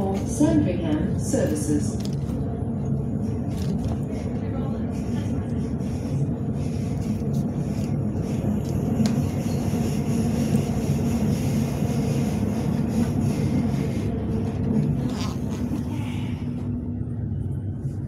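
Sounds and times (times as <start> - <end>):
low even hum: 0.0 - 18.0
train wheels rumbling on track: 0.0 - 18.0.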